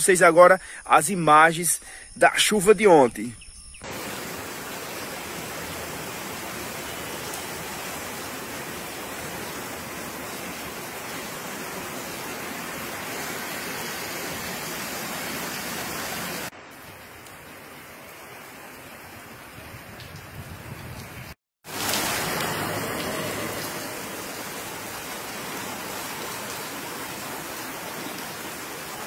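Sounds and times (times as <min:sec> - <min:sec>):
rain on paving and roofs: 0:03.8 - 0:29.0.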